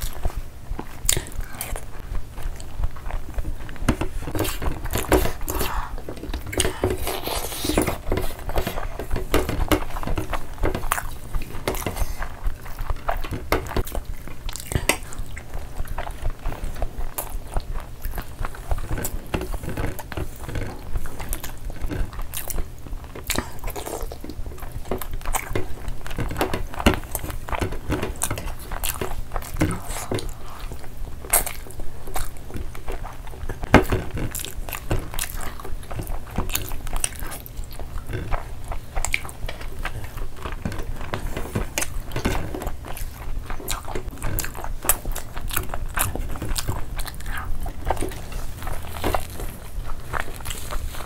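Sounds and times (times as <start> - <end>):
people chewing with mouth clicks: 0.0 - 51.0.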